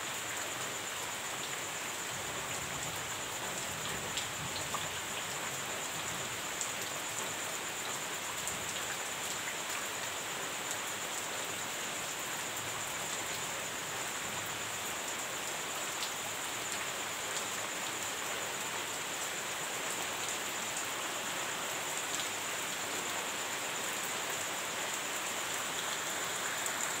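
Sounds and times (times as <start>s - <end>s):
heavy rain falling: 0.6s - 27.0s.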